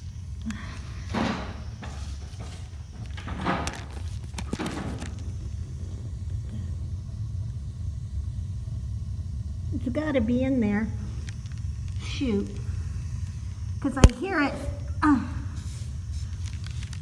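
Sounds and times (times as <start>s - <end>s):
gas burner low rumble: 0.0s - 17.0s.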